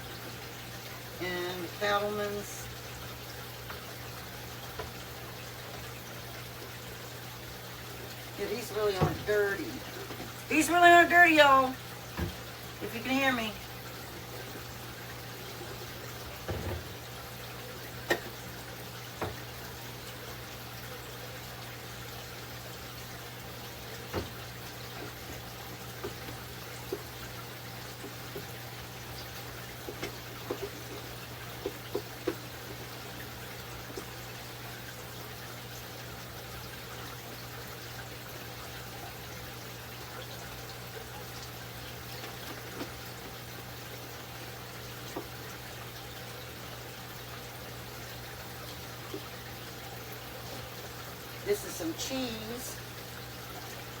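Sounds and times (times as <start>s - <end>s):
low hum and hiss: 0.0s - 54.0s.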